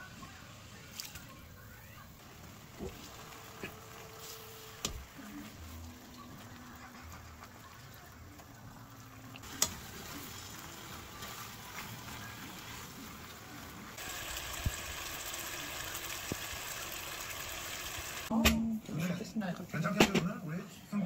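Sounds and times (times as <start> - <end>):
steady kitchen hiss: 0.0 - 18.3.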